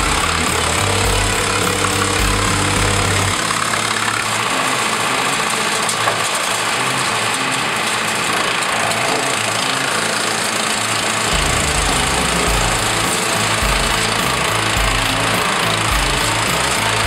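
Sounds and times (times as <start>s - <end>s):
tractor engine drone: 0.0s - 17.0s
wood chipper chewing branches: 0.0s - 17.0s.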